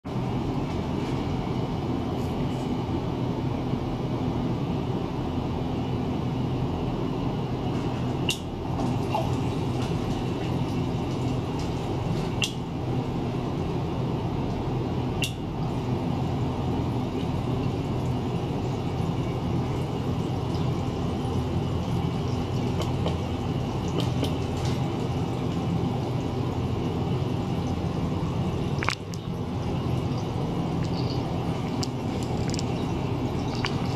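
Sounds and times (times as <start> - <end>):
pump motor hum: 0.1 - 33.9.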